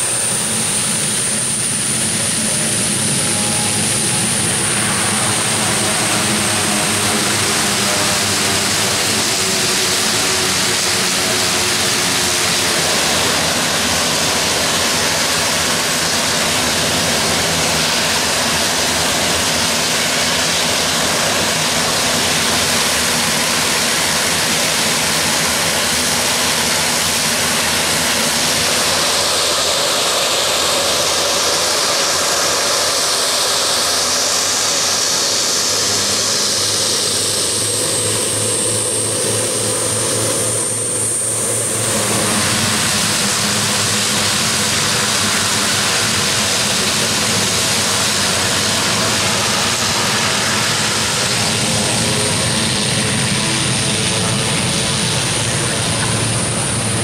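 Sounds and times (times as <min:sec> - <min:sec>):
high turbine whine: 0:00.0 - 0:57.0
turboprop engines running: 0:00.0 - 0:57.0.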